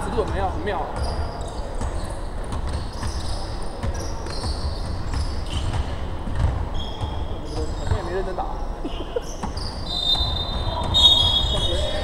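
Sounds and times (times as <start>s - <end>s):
basketball bouncing: 0.0s - 8.3s, 9.2s - 12.0s
sneakers squeaking on floor: 0.0s - 12.0s.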